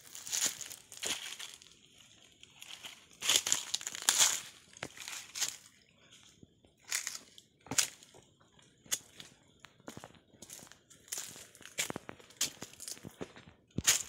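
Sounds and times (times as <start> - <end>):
footsteps crunching dry leaves: 0.0 - 6.2, 6.9 - 8.2, 8.9 - 14.0.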